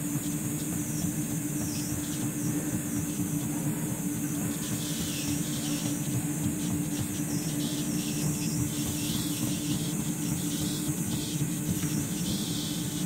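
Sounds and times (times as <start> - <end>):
machine motor humming: 0.0 - 13.0
steady high hiss: 0.0 - 13.0.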